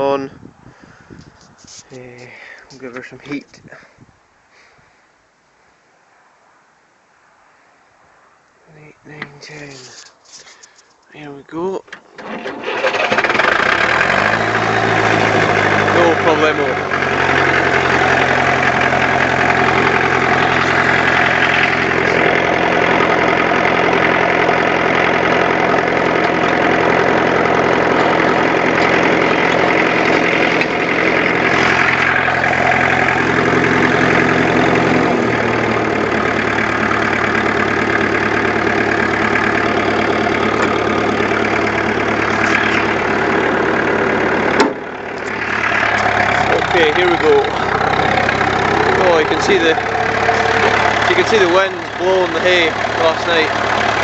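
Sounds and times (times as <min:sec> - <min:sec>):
tractor diesel engine running: 0:00.0 - 0:03.8, 0:08.8 - 0:54.0.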